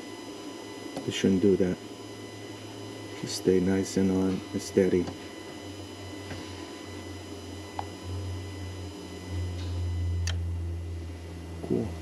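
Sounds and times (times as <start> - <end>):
low hum: 1.0 - 12.0.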